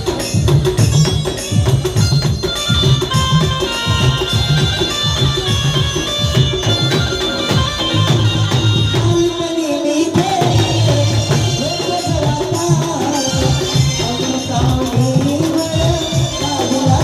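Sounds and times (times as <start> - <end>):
jingling percussion: 0.0 - 17.0
pulsing drum beat: 0.0 - 17.0.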